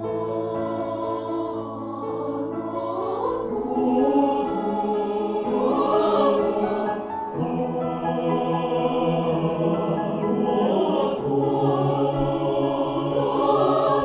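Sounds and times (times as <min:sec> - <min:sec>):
mixed choir singing: 0:00.0 - 0:14.0.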